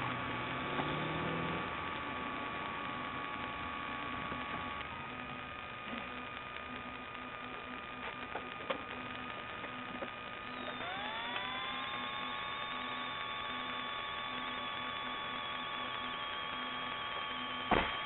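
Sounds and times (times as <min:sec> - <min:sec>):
electrical hum and static hiss: 0:00.0 - 0:18.0.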